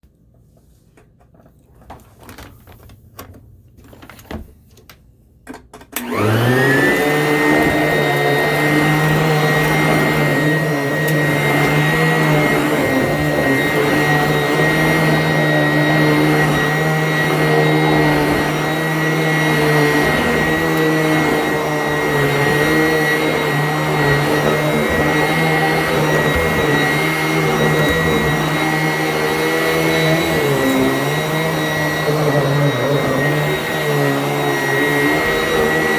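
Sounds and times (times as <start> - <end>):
vacuum cleaner motor whining: 6.0 - 35.9.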